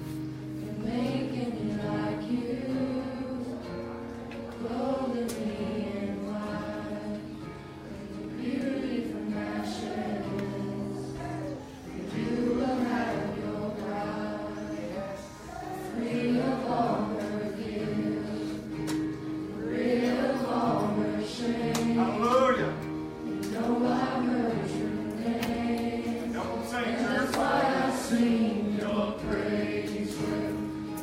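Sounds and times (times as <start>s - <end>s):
group singing slow worship song: 0.0s - 31.0s.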